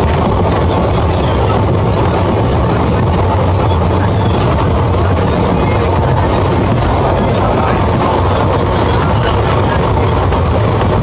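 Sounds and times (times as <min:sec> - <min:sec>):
constant rushing noise: 0:00.0 - 0:11.0
train rumbling: 0:00.0 - 0:11.0.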